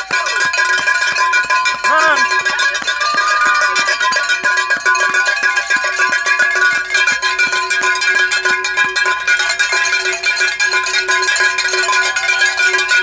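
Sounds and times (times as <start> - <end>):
cowbells clanking: 0.0 - 13.0.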